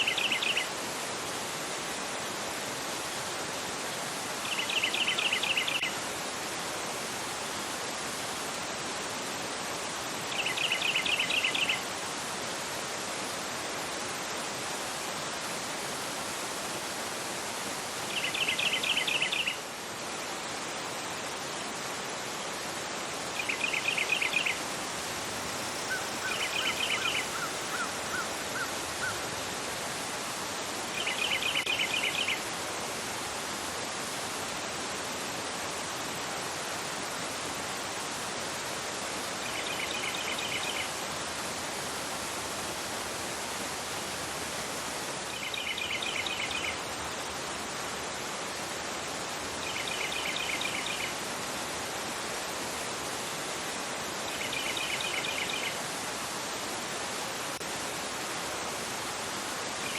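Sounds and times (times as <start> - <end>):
river water rushing over rocks: 0.1 - 59.9.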